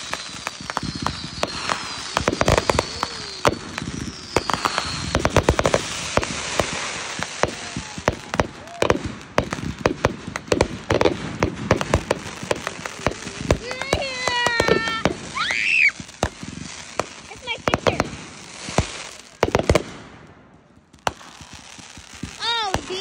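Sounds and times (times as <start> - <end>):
falling firework whistles: 0.0 - 20.0
fireworks bangs and crackles: 0.0 - 23.0.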